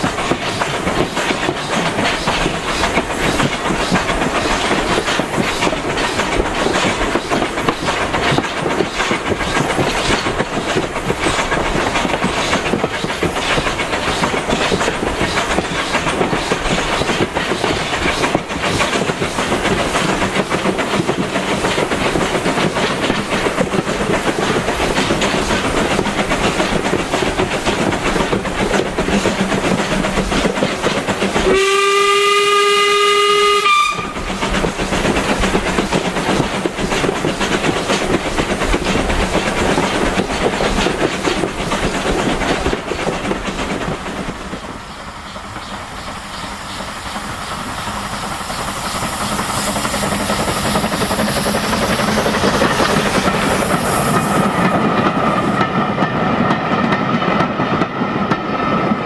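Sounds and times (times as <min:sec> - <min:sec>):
train wheels clattering over rail joints: 0:00.0 - 0:59.0.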